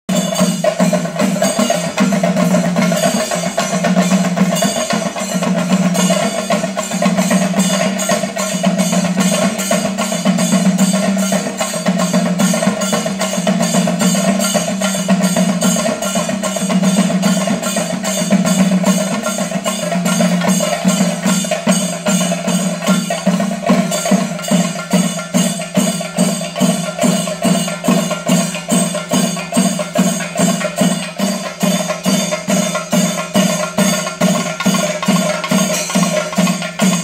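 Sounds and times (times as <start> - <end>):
fast temple drumming with sticks: 0.1 - 37.0.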